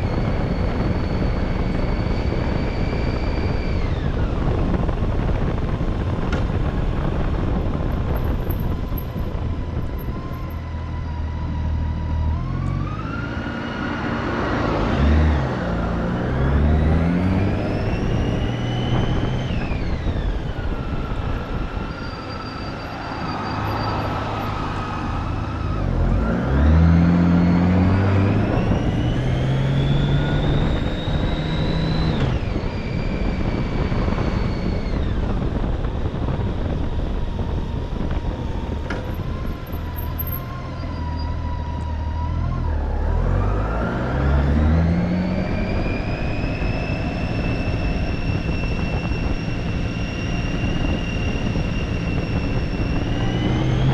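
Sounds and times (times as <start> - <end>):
motorcycle engine accelerating: 0.0 - 53.9
wind noise: 0.0 - 53.9.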